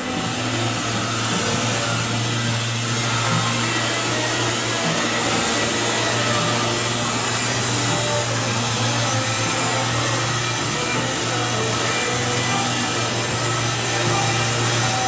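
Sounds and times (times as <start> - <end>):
rotary buffer motor hum: 0.0 - 15.0.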